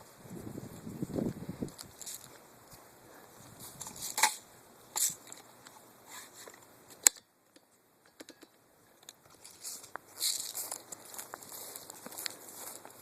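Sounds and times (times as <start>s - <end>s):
rustling crunches: 0.0s - 6.7s, 9.1s - 13.0s.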